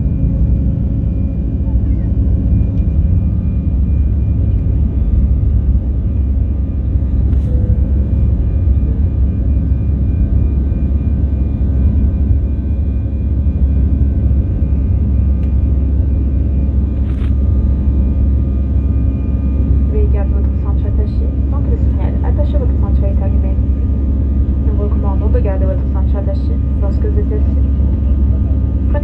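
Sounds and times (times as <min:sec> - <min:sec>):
faint steady hums: 0:00.0 - 0:29.0
jet engines and airflow rumbling: 0:00.0 - 0:29.0.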